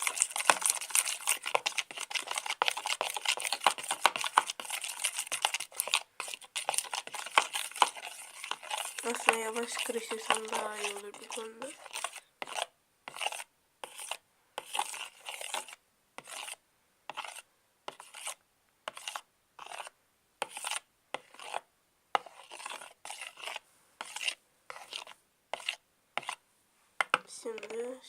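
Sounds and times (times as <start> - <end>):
glue being stirred scraping: 0.0 - 26.4.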